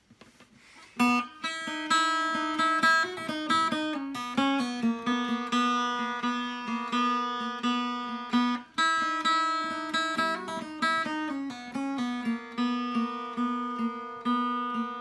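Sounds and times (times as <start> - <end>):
acoustic guitar playing: 1.0 - 15.0.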